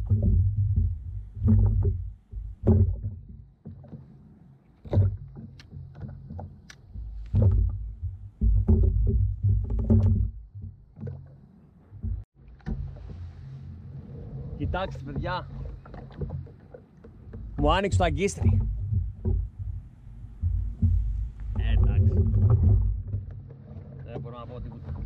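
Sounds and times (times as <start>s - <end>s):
gear thumping and knocking on kayak: 0.0s - 13.5s, 14.5s - 25.0s.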